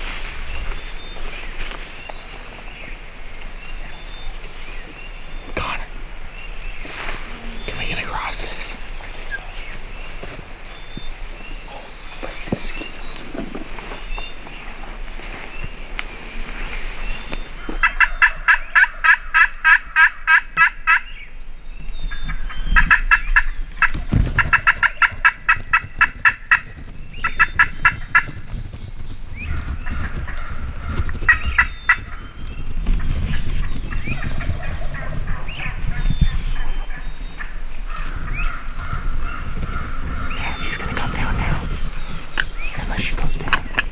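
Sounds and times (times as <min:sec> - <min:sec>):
low rustling: 0:00.0 - 0:18.0, 0:23.8 - 0:43.9.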